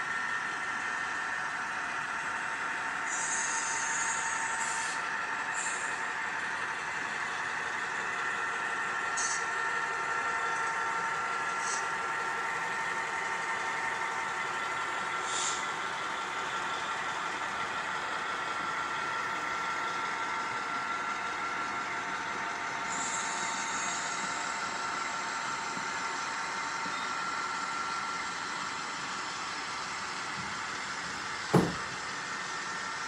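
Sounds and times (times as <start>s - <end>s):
model train humming: 0.0s - 33.0s.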